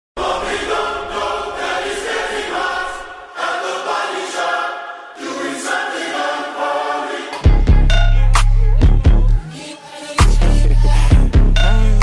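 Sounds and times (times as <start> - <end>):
choir singing sustained chords: 0.2 - 11.9.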